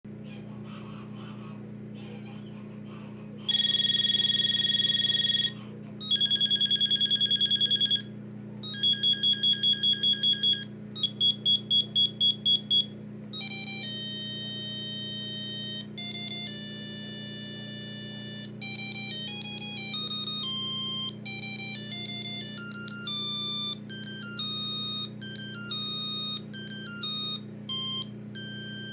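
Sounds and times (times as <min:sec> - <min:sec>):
low steady hum: 0:00.1 - 0:28.9
electronic phone ringtones: 0:03.5 - 0:28.9.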